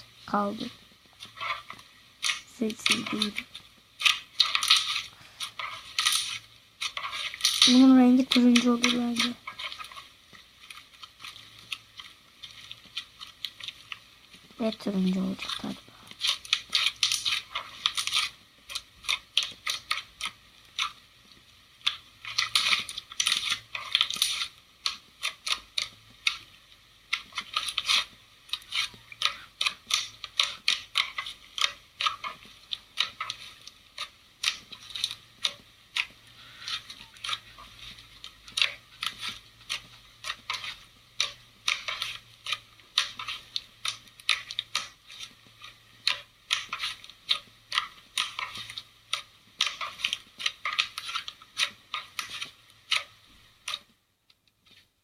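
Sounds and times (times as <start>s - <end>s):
slime squeezed crackling and popping: 0.4s - 53.9s.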